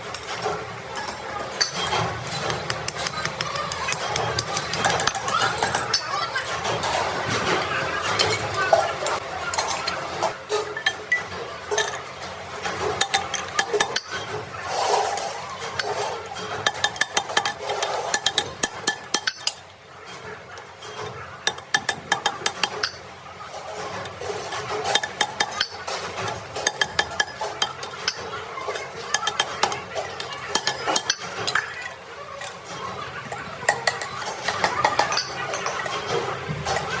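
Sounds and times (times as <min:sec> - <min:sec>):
metal vessels clinking: 0:00.0 - 0:37.0.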